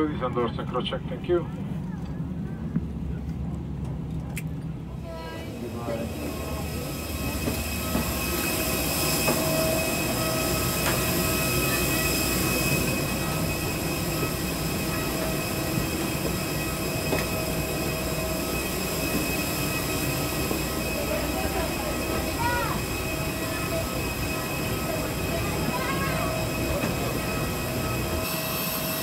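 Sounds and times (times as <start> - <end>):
jet machinery high-pitched whine: 3.9 - 29.0.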